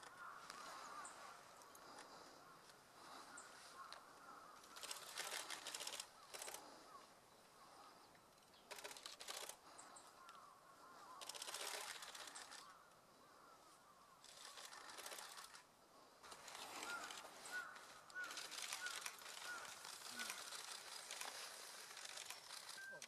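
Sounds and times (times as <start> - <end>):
distant birds calling: 0.0 - 23.0.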